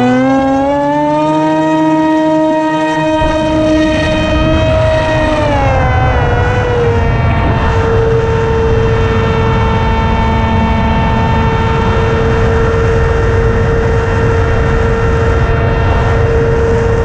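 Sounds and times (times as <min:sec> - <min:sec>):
drone motors whining: 0:00.0 - 0:17.0
wind rumbling on microphone: 0:00.0 - 0:17.0.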